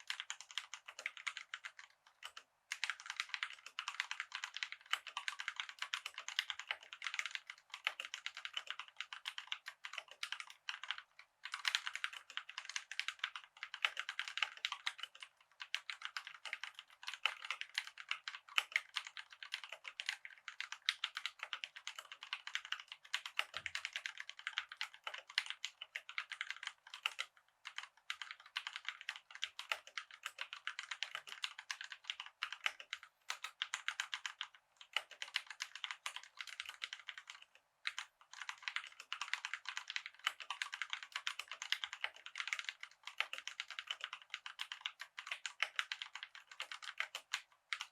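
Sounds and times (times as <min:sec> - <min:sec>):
fast typing on mechanical keyboard: 0:00.0 - 0:47.9.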